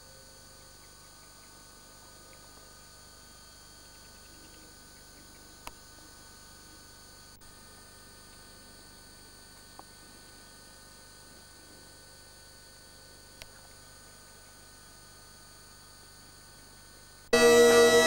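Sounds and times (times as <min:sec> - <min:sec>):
electrical hum with thin tones: 0:00.0 - 0:18.0.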